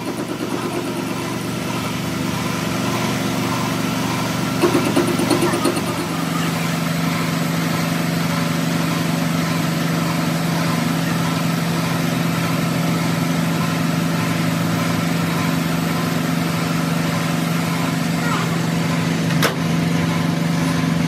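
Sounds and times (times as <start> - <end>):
metal lathe cutting steel: 0.0 - 21.0.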